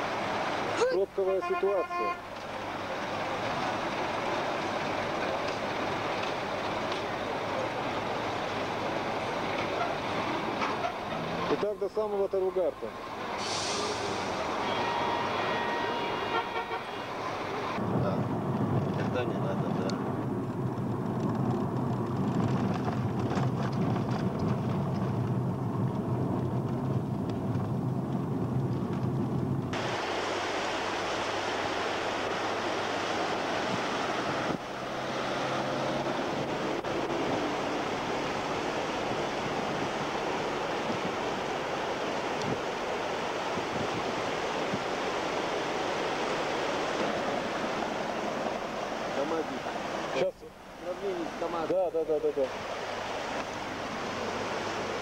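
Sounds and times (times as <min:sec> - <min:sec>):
fast river rushing: 0:00.0 - 0:27.2, 0:29.6 - 0:55.0
car engine and road noise: 0:00.0 - 0:55.0.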